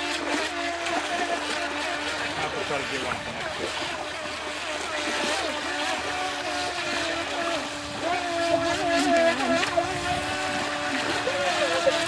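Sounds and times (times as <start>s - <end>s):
electric motor boats whining: 0.0s - 12.0s.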